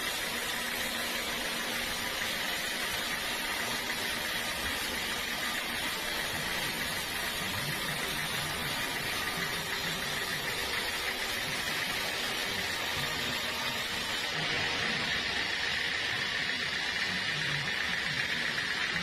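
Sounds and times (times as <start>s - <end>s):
sawmill machinery whirring: 0.0s - 19.0s.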